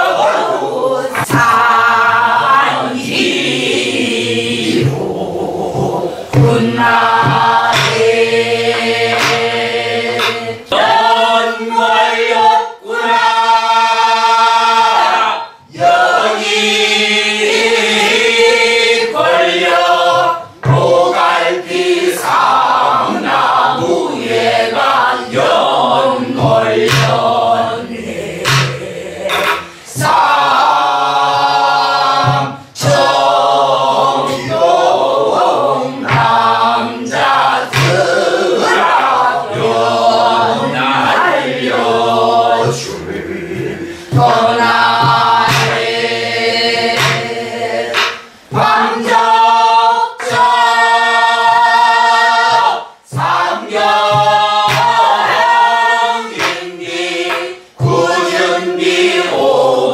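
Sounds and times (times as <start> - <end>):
group singing folk song: 0.0 - 59.9
barrel drum strokes: 1.1 - 13.3, 17.5 - 59.4.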